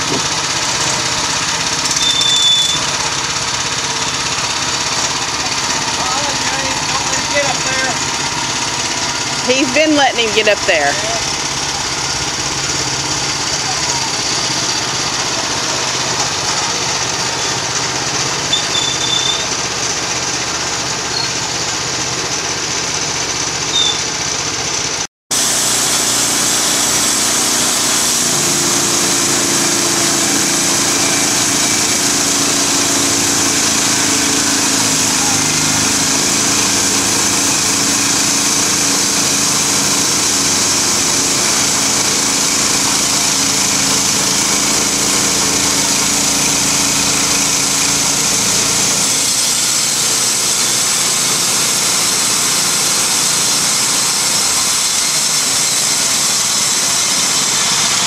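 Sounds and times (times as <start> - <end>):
bandsaw mill sawing log: 0.0 - 58.0.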